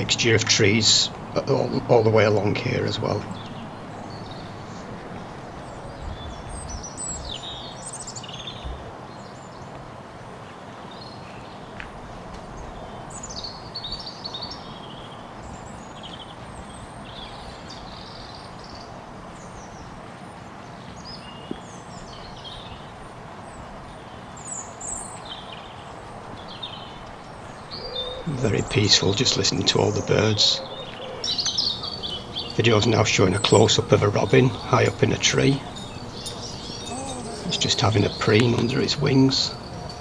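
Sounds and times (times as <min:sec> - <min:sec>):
songbirds singing: 0:00.0 - 0:40.0
steady background noise: 0:00.0 - 0:40.0.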